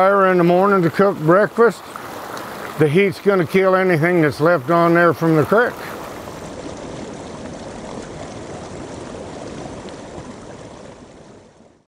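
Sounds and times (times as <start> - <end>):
creek water running over rocks: 0.0 - 11.8.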